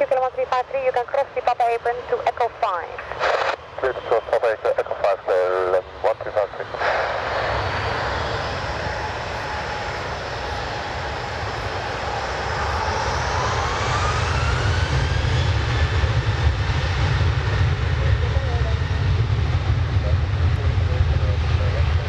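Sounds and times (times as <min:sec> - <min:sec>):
jet airliner engines running: 0:00.0 - 0:22.0.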